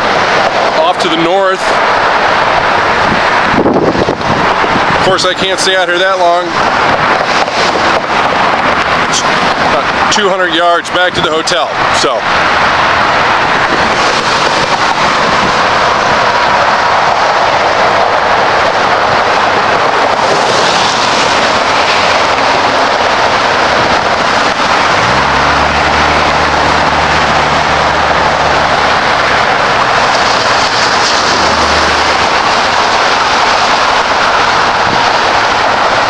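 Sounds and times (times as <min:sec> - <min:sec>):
heavy vehicle engine hum: 0:00.0 - 0:10.1, 0:11.7 - 0:36.0
traffic tyre noise: 0:00.0 - 0:36.0.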